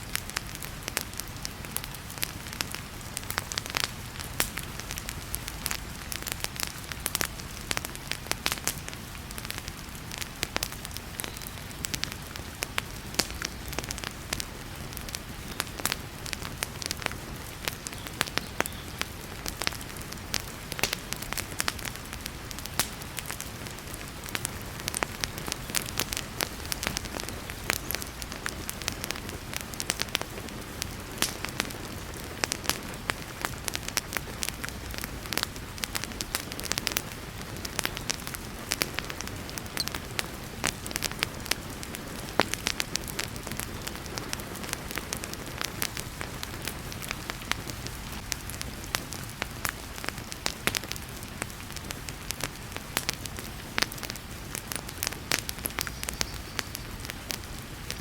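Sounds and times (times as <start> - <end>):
heavy rain hiss: 0.0 - 58.0
wood fire crackling and popping: 0.0 - 58.0.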